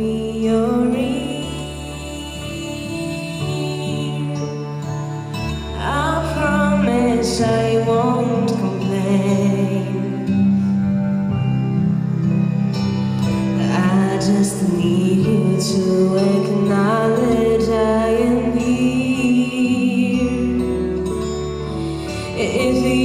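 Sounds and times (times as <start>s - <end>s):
woman singing through microphone: 0.0s - 10.4s, 13.6s - 21.2s, 21.9s - 23.0s
soft instrumental backing: 0.0s - 23.0s.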